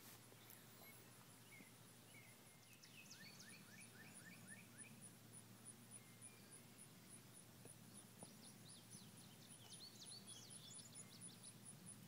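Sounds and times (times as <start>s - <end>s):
small bird chirping: 0.3s - 12.0s.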